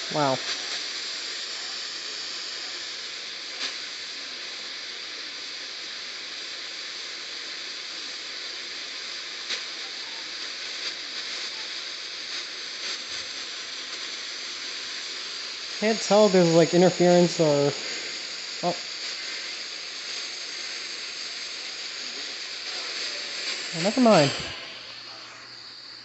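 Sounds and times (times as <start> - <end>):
faint crackles: 0.0 - 26.0
radio static hiss: 0.0 - 26.0.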